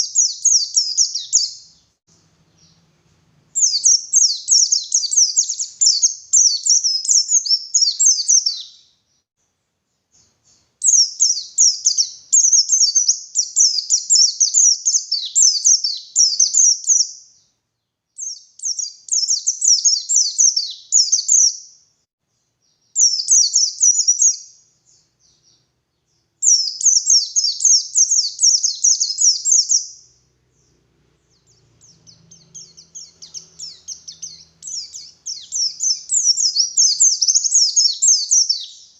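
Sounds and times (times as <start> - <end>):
bird twittering song: 0.0 - 2.9, 3.5 - 9.3, 9.9 - 21.8, 22.6 - 38.9
faint bird twittering: 0.0 - 2.9, 3.5 - 9.3, 10.0 - 17.6, 22.6 - 38.9.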